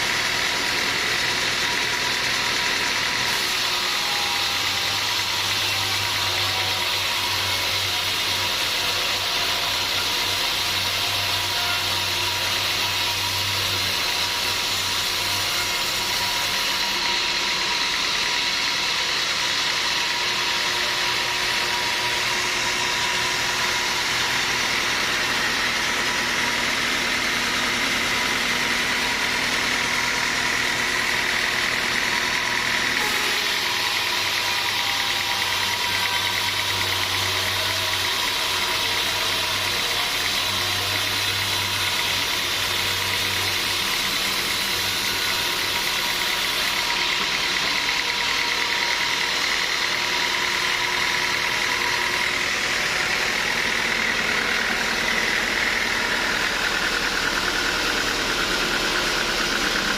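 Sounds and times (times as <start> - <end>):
sawmill machinery whining: 0.0 - 59.9.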